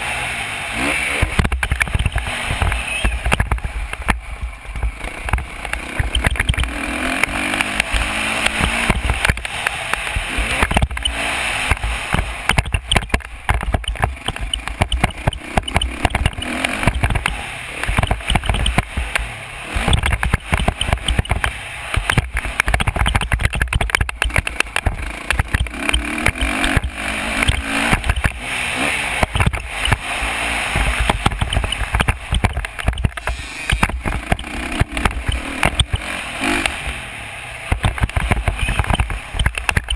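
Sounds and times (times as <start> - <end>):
dirt bike engine under throttle: 0.0 - 39.9.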